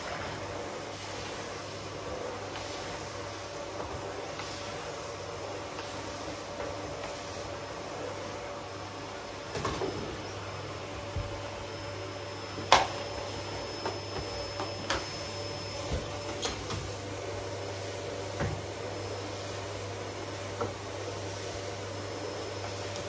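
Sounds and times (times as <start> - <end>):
vacuum cleaner humming: 0.0 - 23.0.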